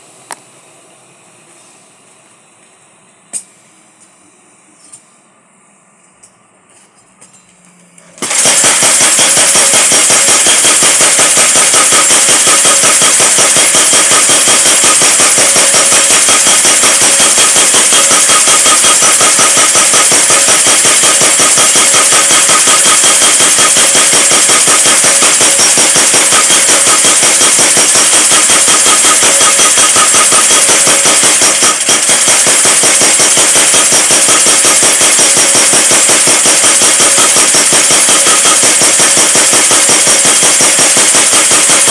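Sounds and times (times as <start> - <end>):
power hammer striking rapidly: 8.2 - 41.9.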